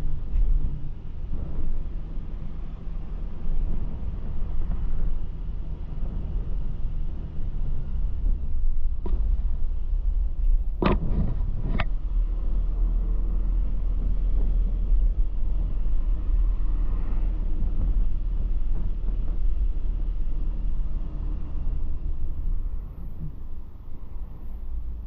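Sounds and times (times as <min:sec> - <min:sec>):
vehicle driving on a road: 0:00.0 - 0:25.0.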